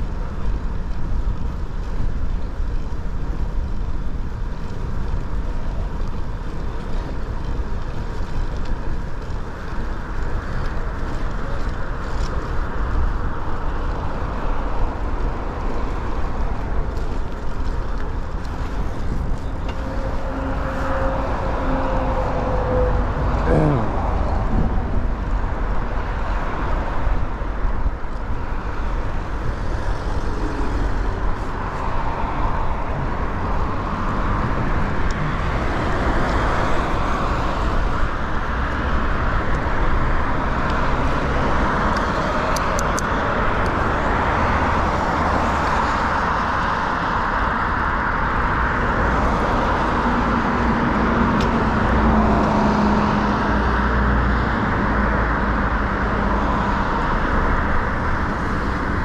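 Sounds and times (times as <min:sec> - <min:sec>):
cars passing close by: 0:00.0 - 0:59.0
low engine hum: 0:00.0 - 0:59.0.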